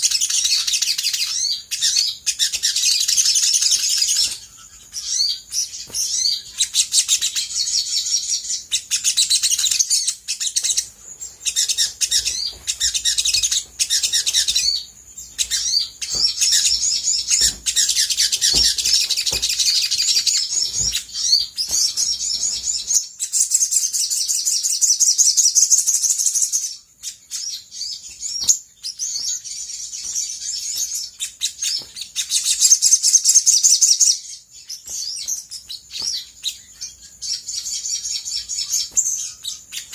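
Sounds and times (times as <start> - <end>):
bird singing chattering trill: 0.0 - 39.9.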